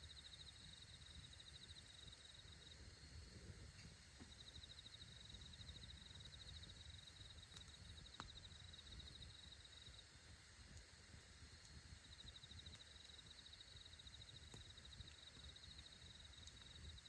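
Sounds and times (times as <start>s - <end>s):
cricket trilling: 0.0s - 10.2s, 11.0s - 17.0s
campfire crackle: 0.0s - 17.0s.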